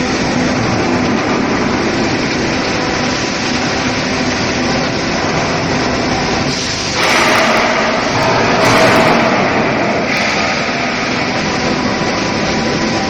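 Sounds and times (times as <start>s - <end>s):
industrial machinery noise: 0.0s - 13.0s.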